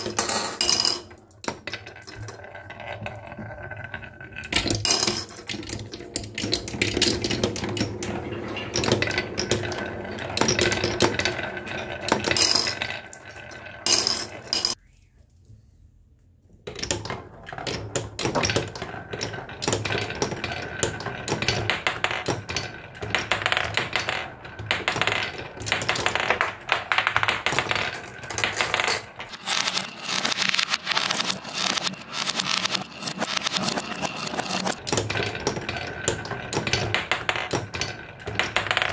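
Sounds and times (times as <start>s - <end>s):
marbles rolling and clacking on wood: 0.0s - 14.8s, 16.6s - 38.9s.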